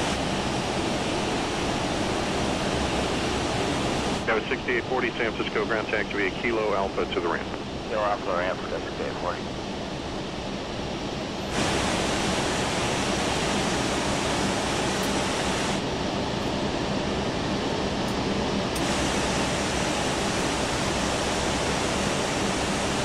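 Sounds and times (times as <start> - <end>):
jet airliner engine rushing: 0.0 - 23.0.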